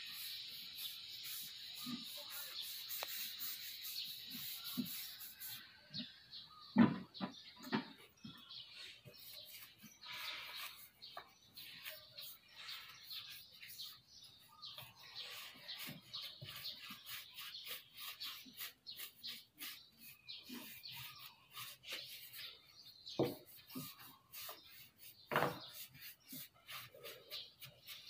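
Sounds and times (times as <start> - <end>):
brush rubbing on wood: 0.0 - 5.8, 8.7 - 28.0
birds chirping: 0.0 - 28.0.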